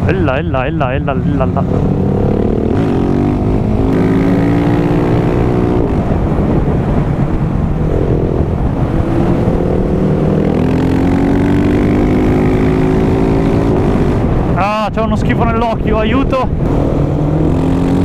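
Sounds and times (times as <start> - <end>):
motorcycle engine revving: 1.1 - 14.6, 16.5 - 18.0.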